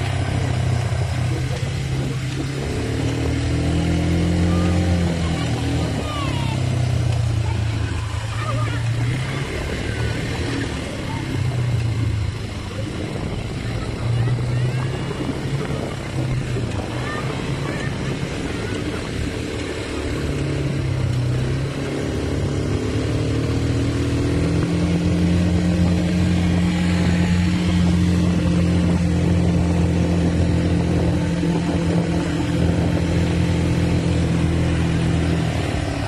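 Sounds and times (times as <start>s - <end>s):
quad bike engine running: 0.0s - 36.0s.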